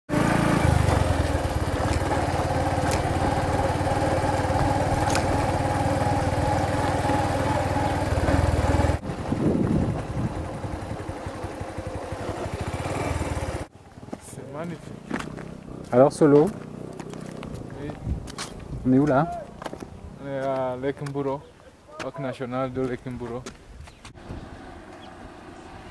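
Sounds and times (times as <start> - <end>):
vehicle engine and road rumble: 0.1 - 21.5, 23.9 - 25.9.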